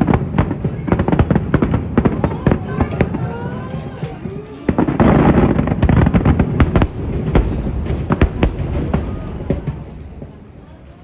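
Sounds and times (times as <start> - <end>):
fireworks bursting: 0.0 - 11.0
fireworks crackling: 0.0 - 11.0.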